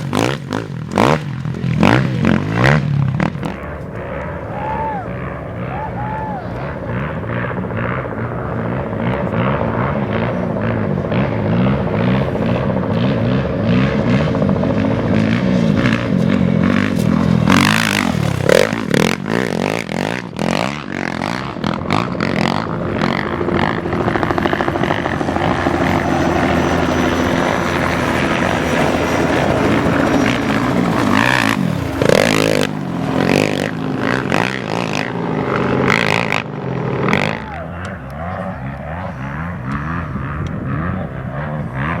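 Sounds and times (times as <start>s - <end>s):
motorcycle engines revving: 0.0s - 42.0s.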